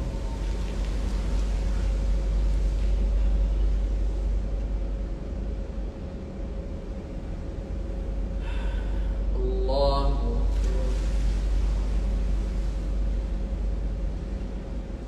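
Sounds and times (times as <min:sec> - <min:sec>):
low rumble: 0:00.0 - 0:15.0
room noise hiss: 0:00.0 - 0:15.0.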